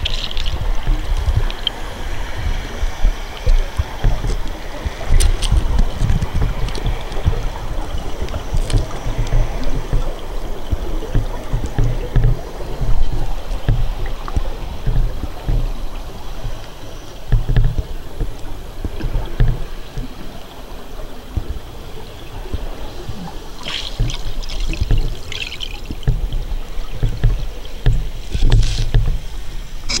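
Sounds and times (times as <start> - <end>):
underwater low thumps and rumbling: 0.0 - 30.0.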